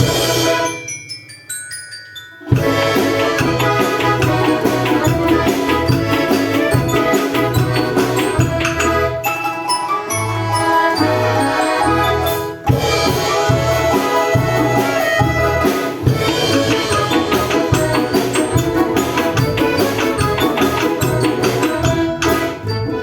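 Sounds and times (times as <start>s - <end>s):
instrumental music with drum beat: 0.0s - 1.0s, 2.4s - 23.0s.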